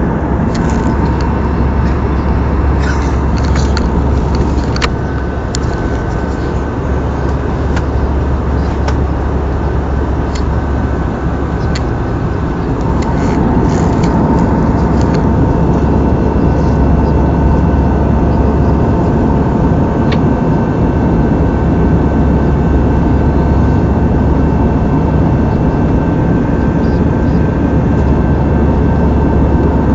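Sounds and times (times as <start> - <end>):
faint whine: 0.0 - 29.9
jet engine and airflow roar: 0.0 - 29.9.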